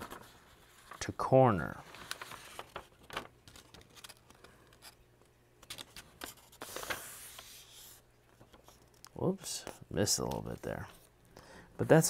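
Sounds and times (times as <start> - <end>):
paper crinkling: 0.0 - 11.1.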